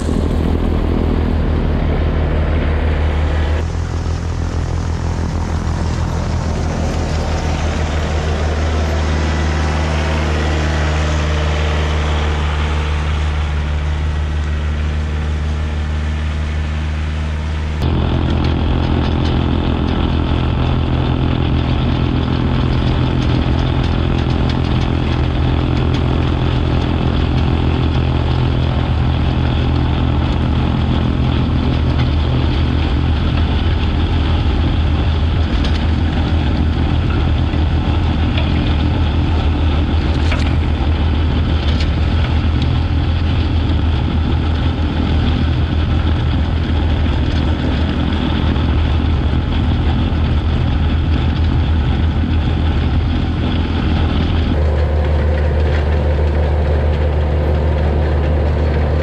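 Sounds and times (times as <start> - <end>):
snowblower throwing snow: 0.0 - 50.0
tractor diesel engine running: 0.0 - 59.0.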